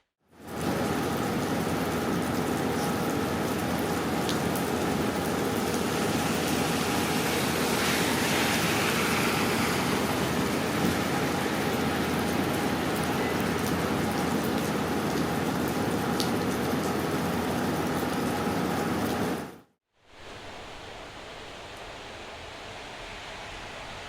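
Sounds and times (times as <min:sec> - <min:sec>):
steady rain: 0:00.3 - 0:24.0.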